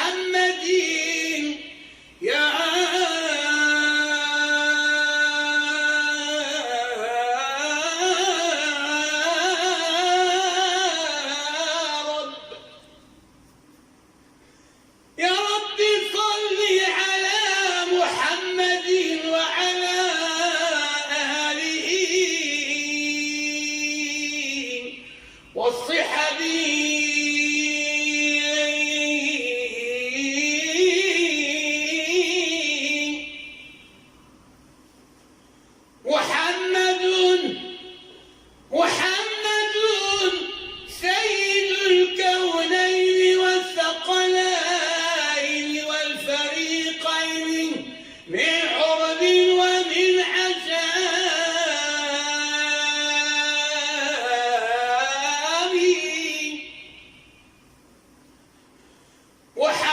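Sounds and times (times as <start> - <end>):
man chanting: 0.0 - 13.1, 15.2 - 34.0, 36.0 - 57.4, 59.6 - 59.9.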